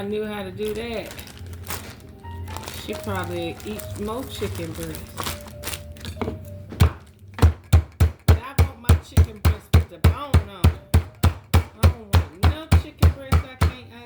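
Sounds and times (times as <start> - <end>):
meat being pounded in plastic bag: 0.6 - 14.0.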